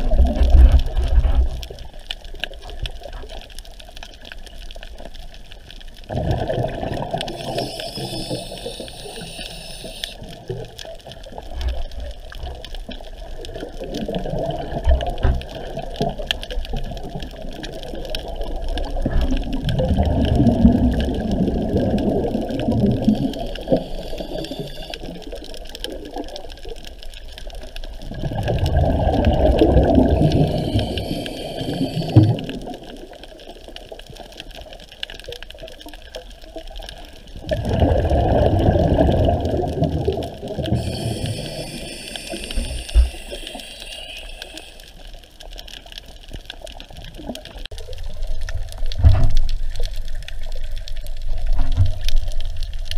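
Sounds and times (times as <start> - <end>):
muffled underwater water noise: 0.0 - 52.9.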